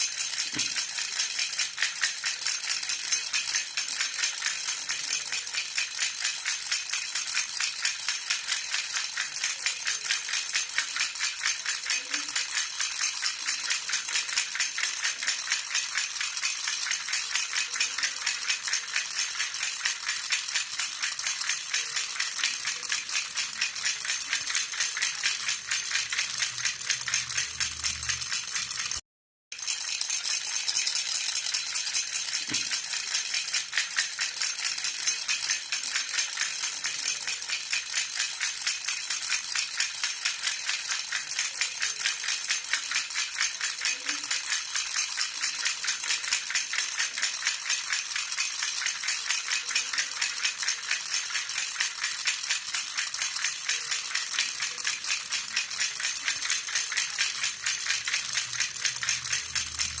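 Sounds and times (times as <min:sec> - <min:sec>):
metal baby rattle jingling: 0:00.0 - 0:29.0, 0:29.6 - 1:00.0.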